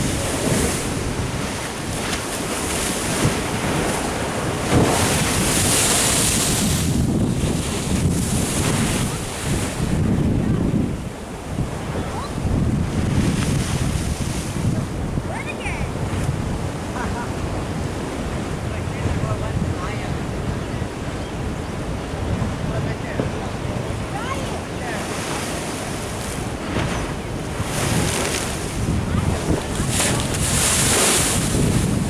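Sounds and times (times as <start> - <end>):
ocean surf washing in: 0.0 - 32.0
wind buffeting microphone: 0.0 - 32.0.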